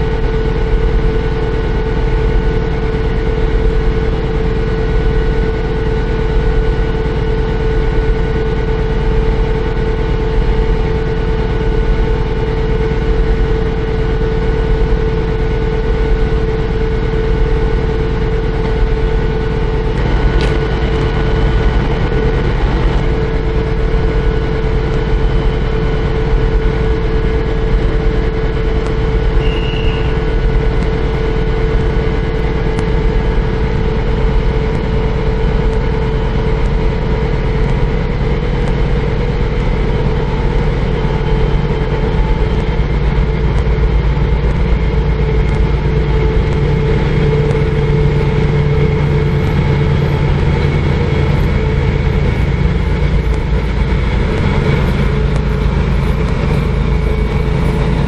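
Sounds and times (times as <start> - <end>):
diesel locomotive engine drone: 0.0 - 58.0
steady hum: 0.0 - 58.0.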